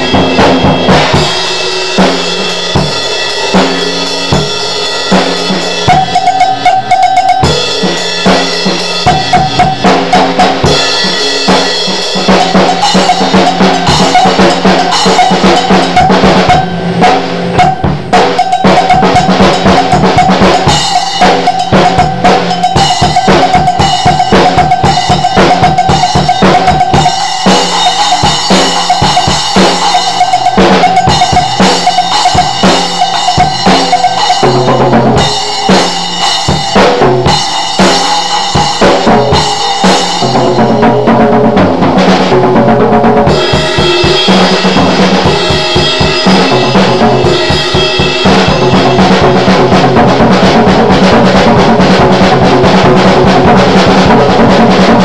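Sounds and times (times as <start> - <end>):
cymbals washing: 0.0 - 42.4, 43.1 - 54.5
bass drum and snare strikes: 0.0 - 55.0
drum ringing: 0.0 - 55.0.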